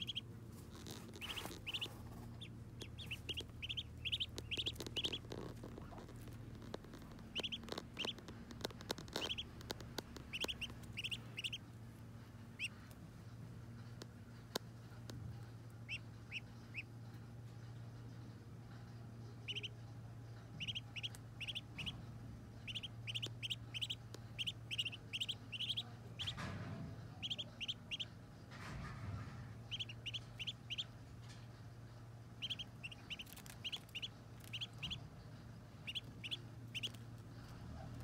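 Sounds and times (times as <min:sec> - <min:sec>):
ducklings peeping: 0:00.0 - 0:38.0
steady low hum: 0:00.0 - 0:38.0.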